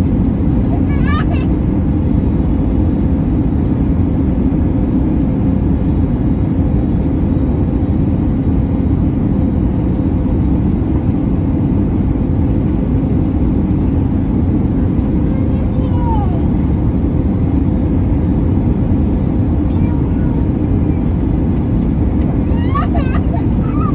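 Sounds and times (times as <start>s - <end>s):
airplane cabin engine rumble: 0.0s - 23.9s.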